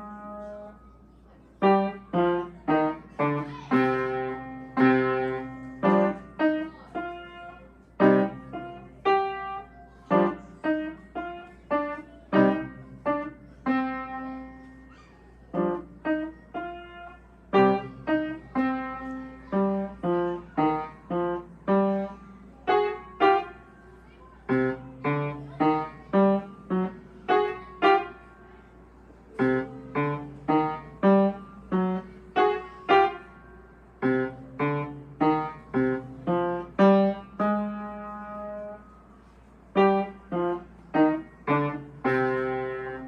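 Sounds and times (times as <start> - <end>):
solo piano piece: 0.0 - 1.0, 1.6 - 43.0.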